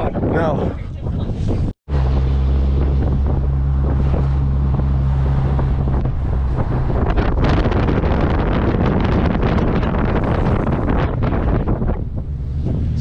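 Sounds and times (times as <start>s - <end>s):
wind buffeting microphone: 0.0s - 13.0s
car engine droning: 1.9s - 13.0s.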